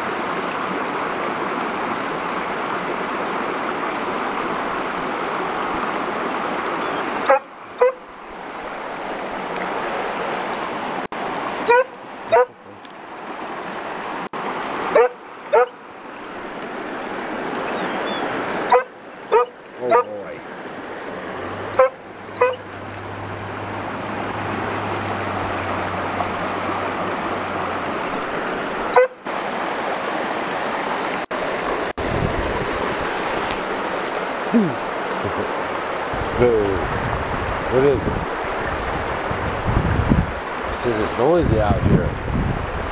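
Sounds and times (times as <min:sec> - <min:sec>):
mountain stream rushing: 0:00.0 - 0:42.9.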